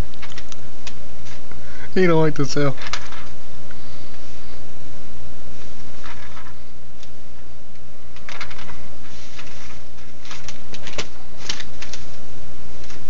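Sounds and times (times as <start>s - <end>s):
paper flyers rustling: 0.0s - 4.2s, 5.6s - 13.0s
steady low hum: 0.0s - 13.0s.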